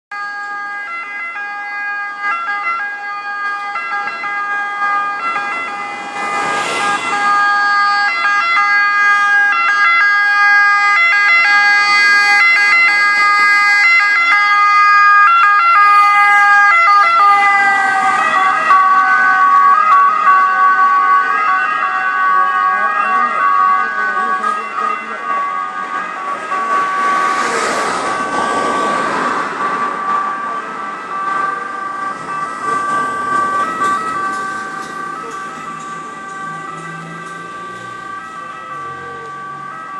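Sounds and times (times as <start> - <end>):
ambulance two-tone siren: 0.1 - 39.9.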